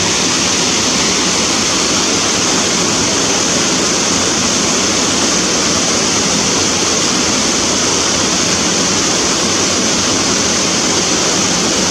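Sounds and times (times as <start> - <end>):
waterfall crashing: 0.0 - 11.9.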